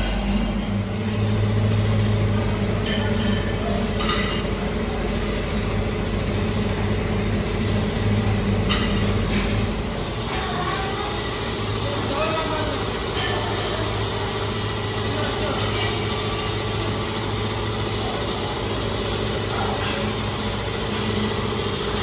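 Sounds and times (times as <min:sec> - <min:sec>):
low mechanical drone: 0:00.0 - 0:22.0.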